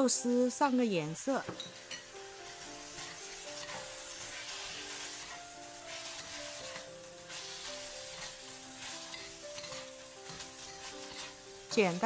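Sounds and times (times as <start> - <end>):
food sizzling in hot oil: 0.0 - 12.0
soft background music: 0.0 - 12.0
metal spatula stirring in wok: 1.6 - 12.0.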